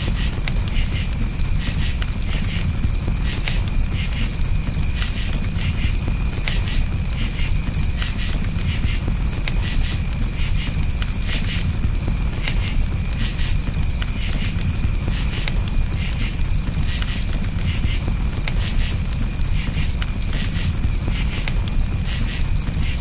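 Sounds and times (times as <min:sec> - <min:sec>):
campfire crackling and popping: 0:00.0 - 0:23.0
crickets chirping: 0:00.0 - 0:23.0.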